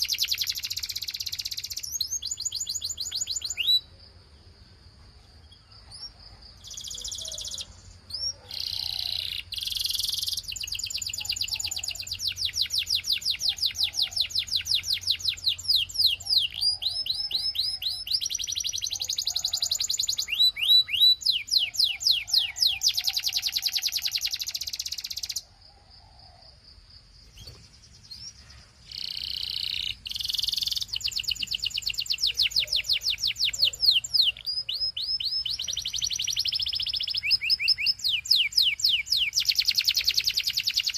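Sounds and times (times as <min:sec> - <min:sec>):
canary singing trills: 0:00.0 - 0:04.6, 0:05.2 - 0:26.5, 0:27.2 - 0:40.9.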